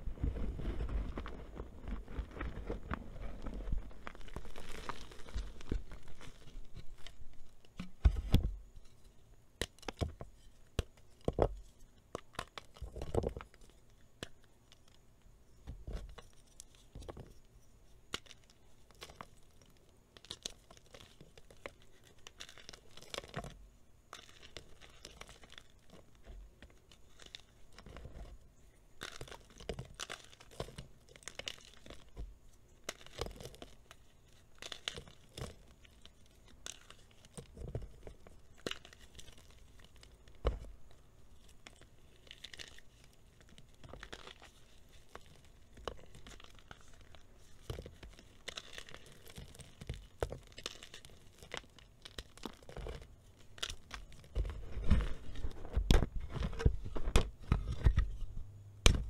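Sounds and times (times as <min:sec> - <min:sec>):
chalk being crushed by hand: 0:00.2 - 0:09.0, 0:18.1 - 0:59.0.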